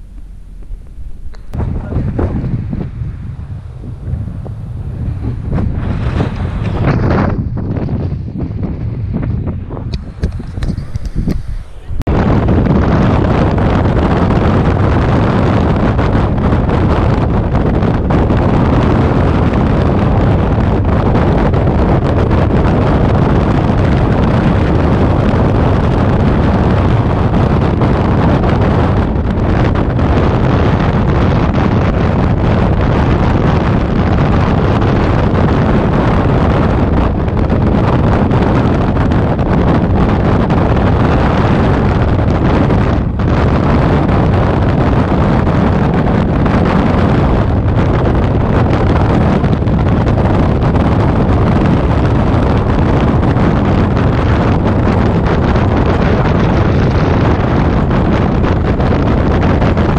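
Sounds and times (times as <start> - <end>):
motorcycle road noise: 0.0 - 59.9
wind buffeting microphone: 0.0 - 59.9.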